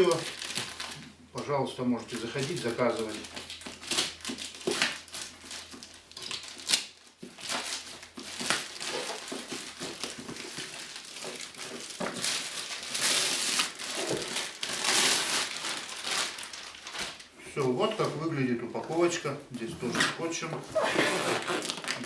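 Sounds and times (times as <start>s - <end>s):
parcel wrapping crinkling: 0.0s - 1.2s, 2.0s - 19.0s, 19.9s - 22.0s.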